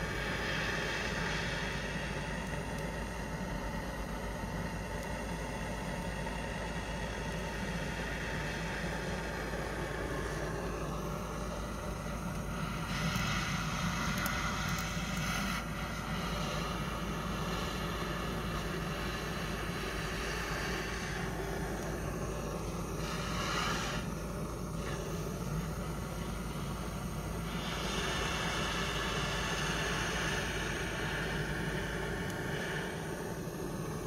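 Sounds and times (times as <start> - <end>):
gas torch flame hissing roar: 0.0 - 34.0.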